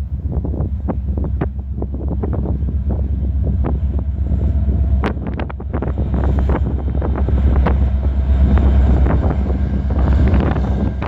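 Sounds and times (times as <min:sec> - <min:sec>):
freight train rumbling: 0:00.0 - 0:11.0
wind buffeting microphone: 0:00.0 - 0:11.0.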